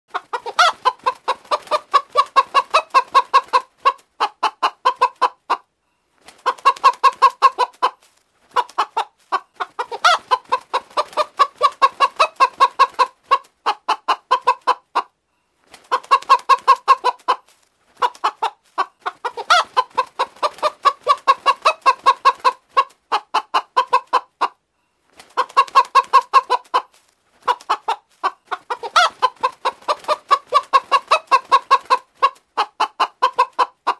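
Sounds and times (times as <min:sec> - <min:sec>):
hen clucking: 0:00.1 - 0:05.7, 0:06.3 - 0:15.2, 0:15.8 - 0:24.6, 0:25.2 - 0:33.9.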